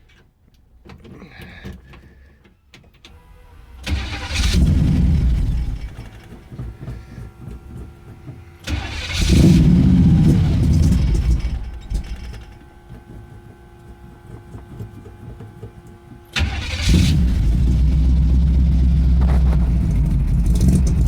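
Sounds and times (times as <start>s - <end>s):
engine firing bursts: 3.2s - 21.0s.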